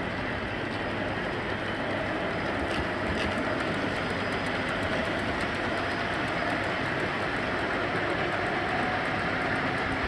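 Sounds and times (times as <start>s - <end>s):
model train wheels on track: 0.0s - 10.0s.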